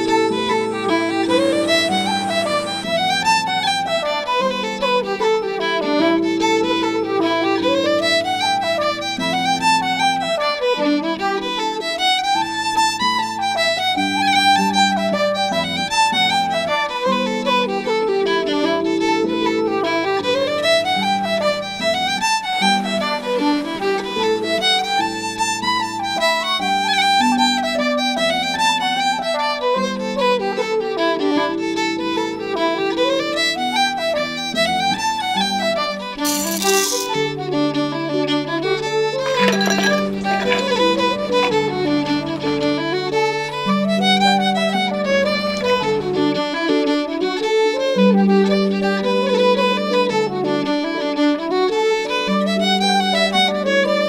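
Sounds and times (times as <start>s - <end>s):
fiddle melody: 0.0s - 54.0s.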